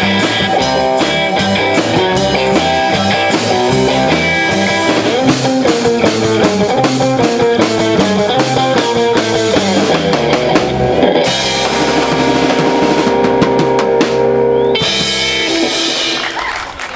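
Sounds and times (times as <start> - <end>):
rapid drum hits: 0.0 - 14.4
live rock band playing: 0.0 - 16.9.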